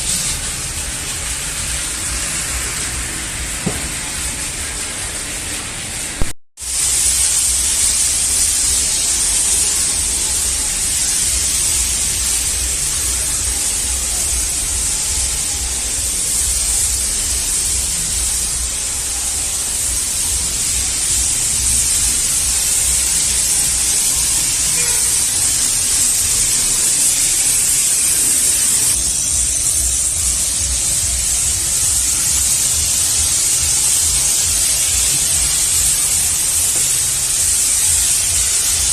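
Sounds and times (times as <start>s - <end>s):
water spray hissing onto car: 0.0s - 38.9s.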